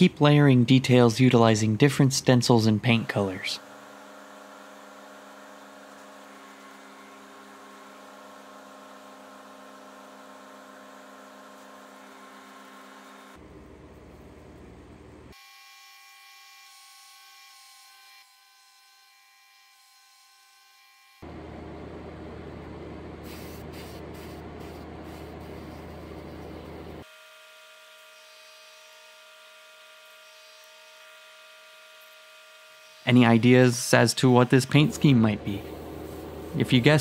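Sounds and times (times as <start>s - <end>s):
small electric motor humming: 1.5s - 21.4s, 23.2s - 37.0s.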